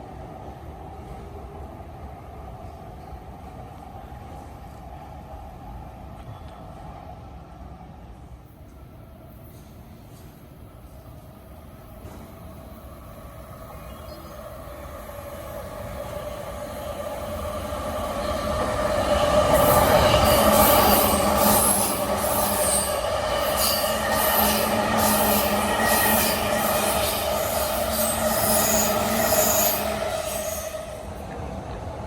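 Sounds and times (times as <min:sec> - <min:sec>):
electric train passing at speed: 0:00.0 - 0:32.0.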